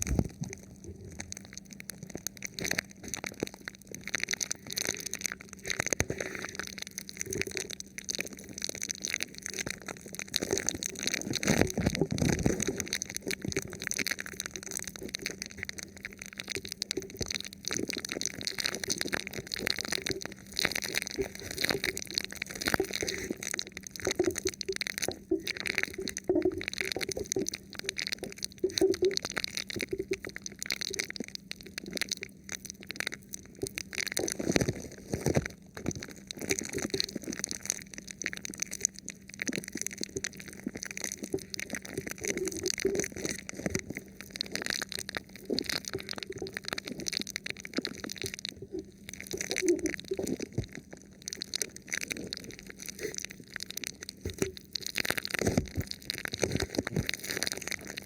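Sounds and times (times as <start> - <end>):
fingers crinkling plastic sheet: 0.0 - 58.0.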